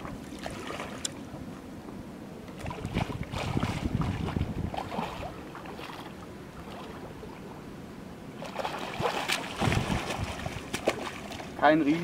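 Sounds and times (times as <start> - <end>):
faint wind: 0.0 - 12.0.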